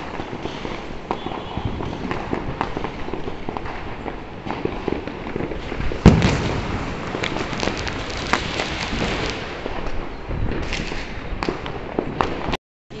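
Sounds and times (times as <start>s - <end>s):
loud firework bang: 0.0s - 11.6s
crackle of distant firecrackers: 0.0s - 13.0s.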